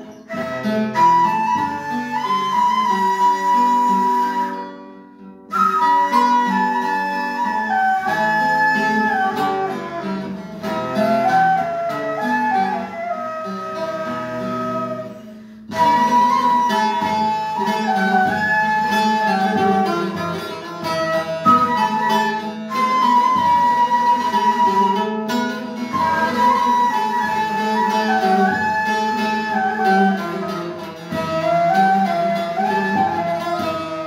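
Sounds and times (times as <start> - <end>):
end-blown flute melody: 0.0 - 4.7, 5.5 - 34.0
plucked lute accompaniment: 0.0 - 34.0.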